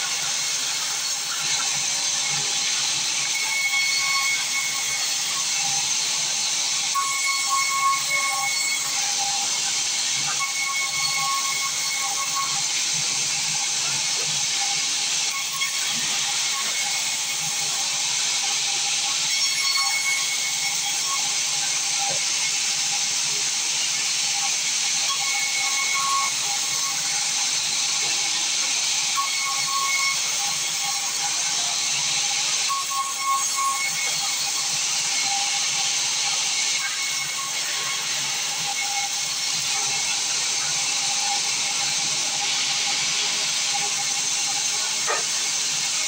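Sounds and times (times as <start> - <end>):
saw whining: 0.0 - 46.0.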